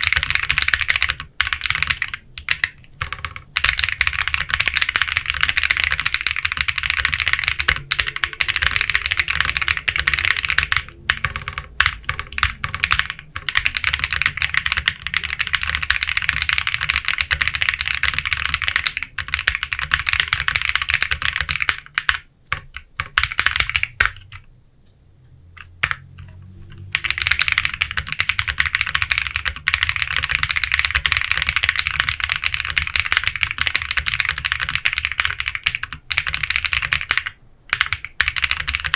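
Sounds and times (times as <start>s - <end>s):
fast mechanical keyboard typing: 0.0s - 24.5s, 25.6s - 38.9s.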